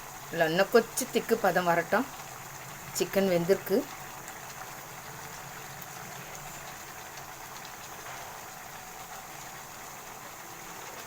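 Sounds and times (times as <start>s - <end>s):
gravy bubbling and sizzling: 0.0s - 11.0s.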